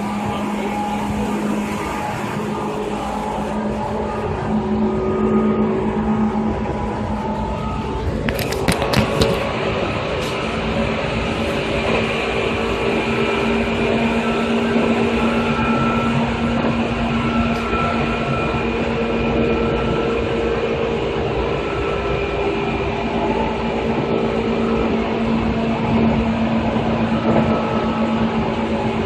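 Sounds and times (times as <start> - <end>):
traction motor hum: 0.0 - 29.0
train wheels on rails: 0.0 - 29.0.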